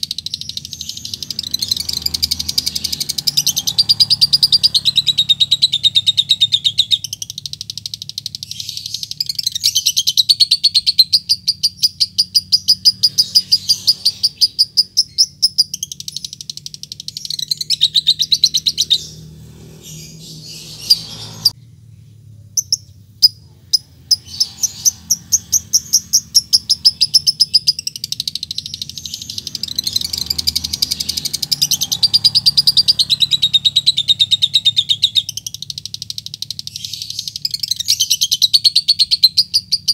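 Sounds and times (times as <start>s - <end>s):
lovebird chattering song: 0.0s - 21.6s, 22.6s - 39.9s.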